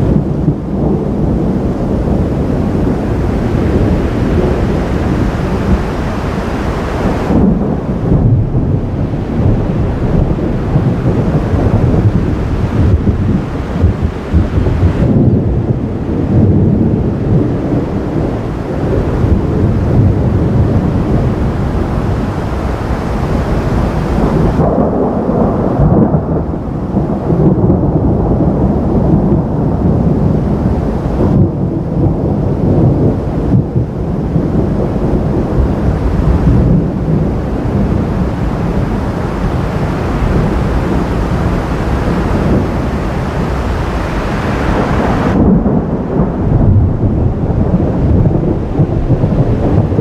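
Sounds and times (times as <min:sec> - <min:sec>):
thunder rumbling: 0:00.0 - 0:50.0.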